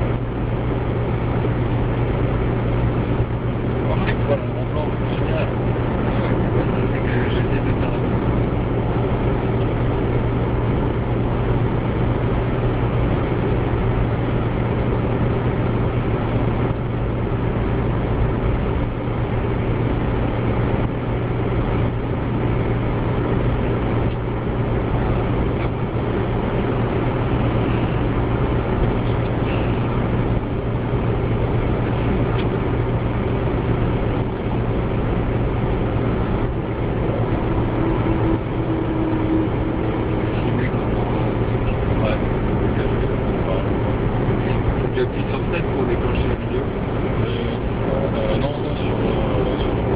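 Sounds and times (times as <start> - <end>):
car cabin road and engine rumble: 0.0 - 49.9.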